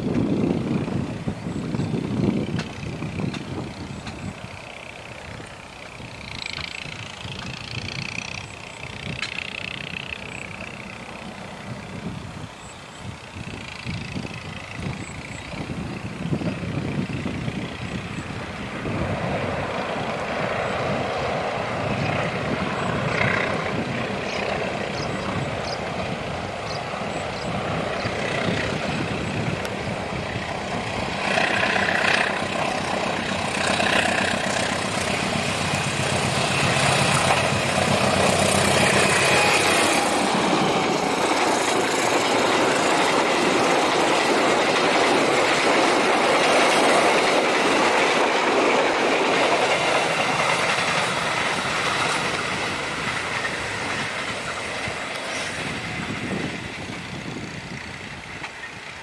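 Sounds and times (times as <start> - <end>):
locomotive engine rumbling: 0.0 - 59.0
train wheels on track: 0.0 - 59.0.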